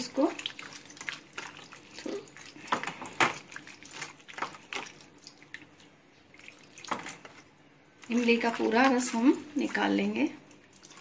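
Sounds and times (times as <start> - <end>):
water trickling: 0.0 - 11.0
wet pulp squishing: 0.0 - 11.0.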